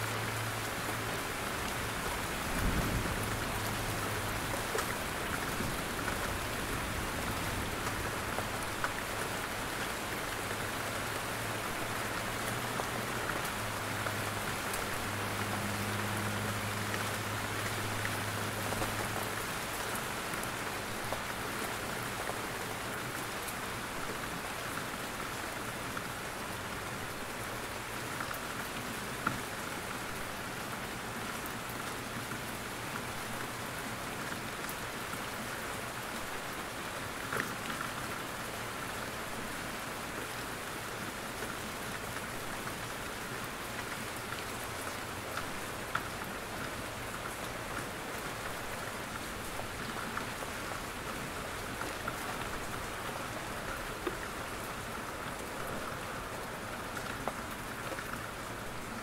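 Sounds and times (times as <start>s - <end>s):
rain falling in forest: 0.0s - 59.0s
water dripping from trees: 0.0s - 59.0s.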